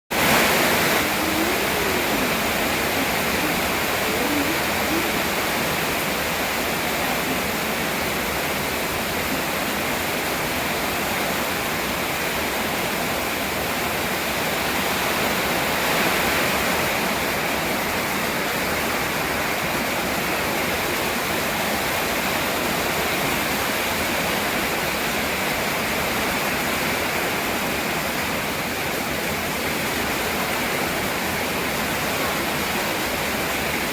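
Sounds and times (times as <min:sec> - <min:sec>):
heavy rain: 0:00.1 - 0:33.9.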